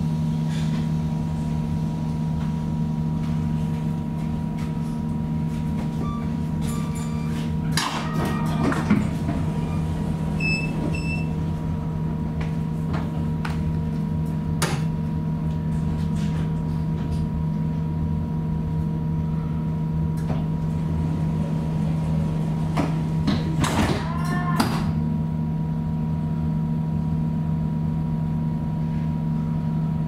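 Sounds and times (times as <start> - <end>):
electrical hum of train coach: 0.0 - 30.0.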